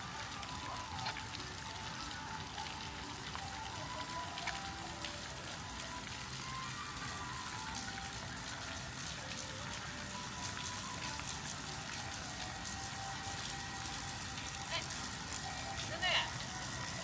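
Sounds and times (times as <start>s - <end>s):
faint music: 0.0s - 17.0s
rain dripping on hard surfaces: 0.0s - 17.0s.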